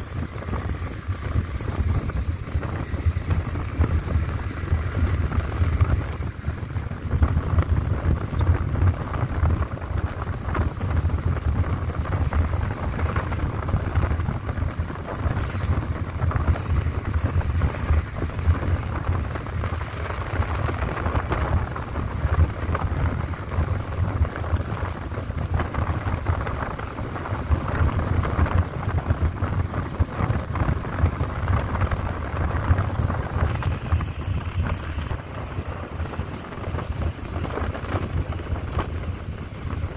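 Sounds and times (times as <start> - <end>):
road and engine rumble: 0.0 - 39.9
wind buffeting microphone: 0.0 - 39.9.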